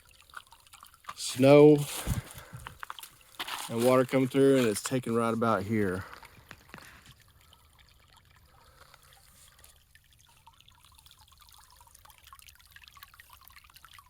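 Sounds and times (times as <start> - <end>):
creek water trickling over rock: 0.0 - 14.0.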